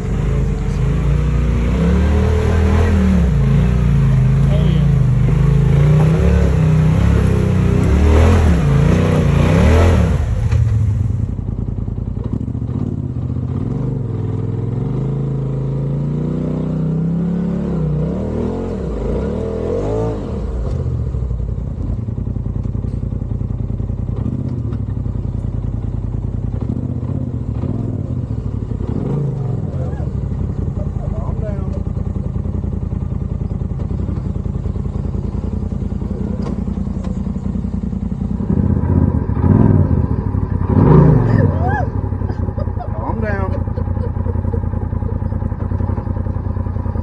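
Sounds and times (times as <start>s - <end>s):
utility vehicle engine revving: 0.0s - 47.0s.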